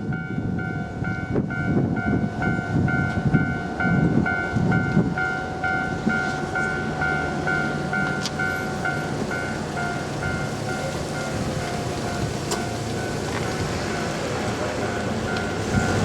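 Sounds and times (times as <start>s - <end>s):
level-crossing warning bell: 0.0s - 16.0s
train rumbling over rails: 0.0s - 16.0s.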